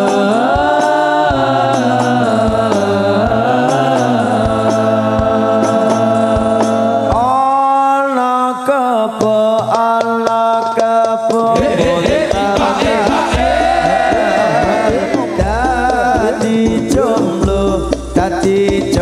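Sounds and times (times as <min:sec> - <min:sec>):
steady drum beat: 0:00.0 - 0:07.6, 0:09.1 - 0:19.0
man singing through loudspeakers: 0:00.0 - 0:19.0.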